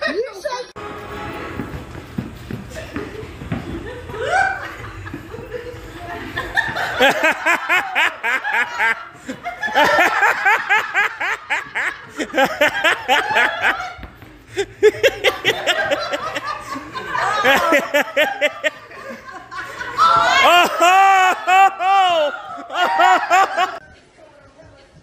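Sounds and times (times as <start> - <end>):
people laughing hard: 2.4 - 23.8.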